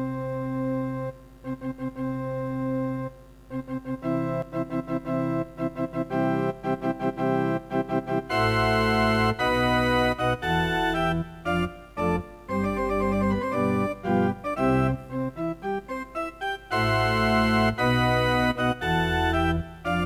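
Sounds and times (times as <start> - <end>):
organ-like keyboard chords pulsing: 0.0 - 20.0.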